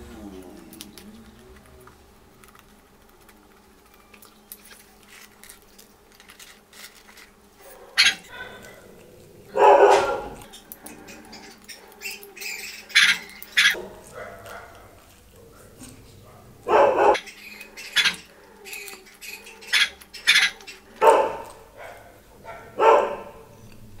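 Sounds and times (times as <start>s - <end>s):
person chewing pizza: 0.0s - 22.7s.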